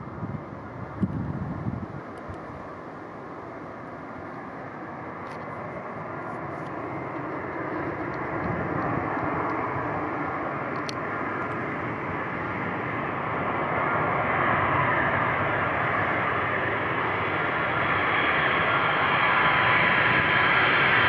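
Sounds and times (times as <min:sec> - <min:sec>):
jet aircraft approaching: 0:00.0 - 0:21.0.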